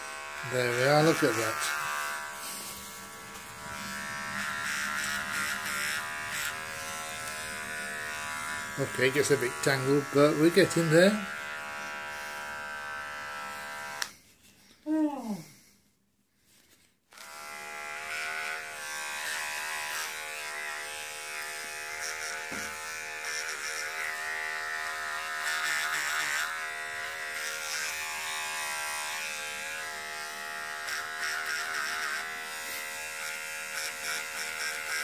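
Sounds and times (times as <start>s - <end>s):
electric razor buzzing: 0.0s - 14.2s, 17.1s - 35.0s.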